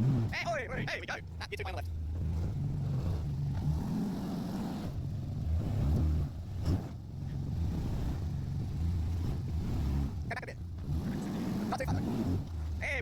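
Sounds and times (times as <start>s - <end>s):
off-road engine revving: 0.0s - 13.0s.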